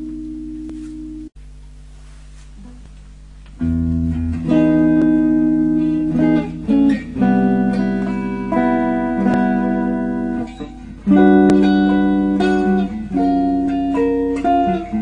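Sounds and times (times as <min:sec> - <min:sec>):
plucked guitar music: 0:00.0 - 0:01.3, 0:03.6 - 0:15.0.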